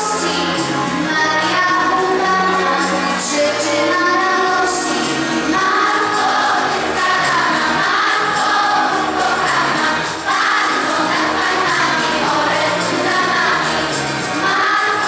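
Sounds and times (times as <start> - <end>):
choir singing a carol: 0.0 - 15.0.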